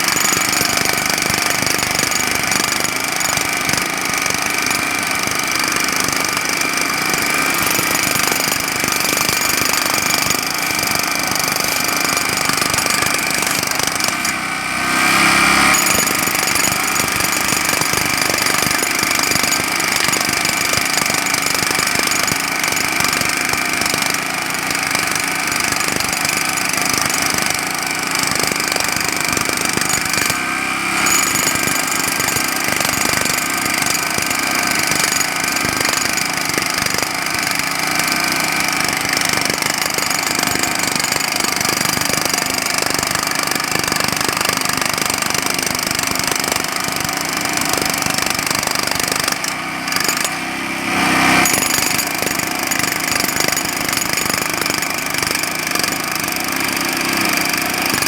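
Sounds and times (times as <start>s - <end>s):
jackhammer hammering: 0.0s - 58.0s.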